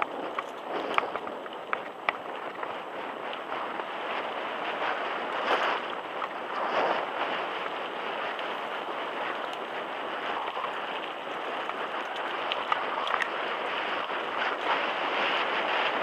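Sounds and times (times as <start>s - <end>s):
bike tyres on dirt track: 0.0s - 16.0s
wind buffeting microphone: 0.0s - 16.0s.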